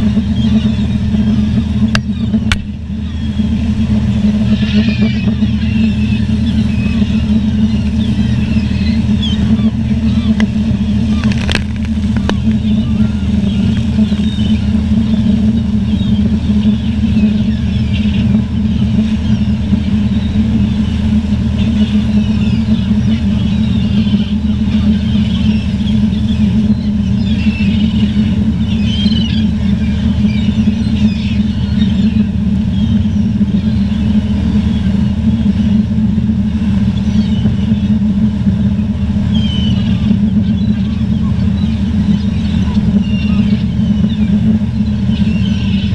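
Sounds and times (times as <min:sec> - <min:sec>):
low engine drone: 0:00.0 - 0:45.9
seagulls calling: 0:00.0 - 0:45.9.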